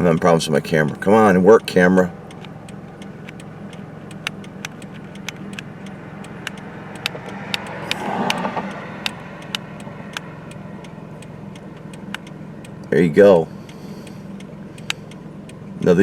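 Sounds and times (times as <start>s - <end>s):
car engine idling: 0.0s - 16.0s
irregular clicks and taps: 1.6s - 12.9s, 13.6s - 15.9s.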